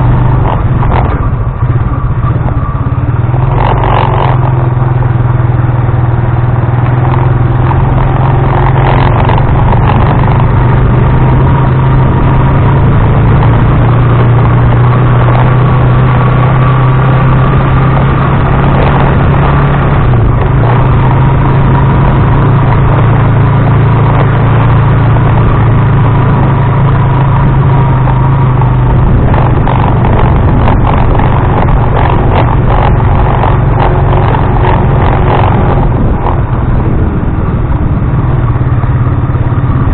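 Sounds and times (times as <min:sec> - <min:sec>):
motor tricycle engine humming: 0:00.0 - 0:39.9
road noise: 0:00.0 - 0:39.9.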